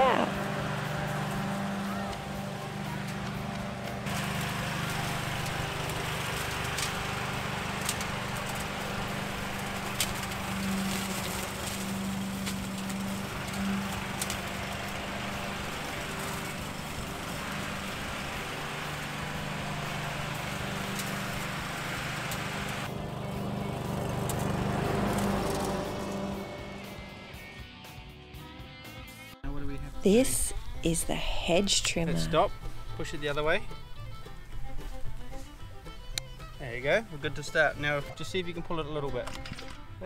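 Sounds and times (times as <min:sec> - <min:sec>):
grit striking mower deck: 0:00.0 - 0:27.1, 0:32.6 - 0:40.0
push mower running: 0:00.0 - 0:27.6, 0:32.0 - 0:40.0.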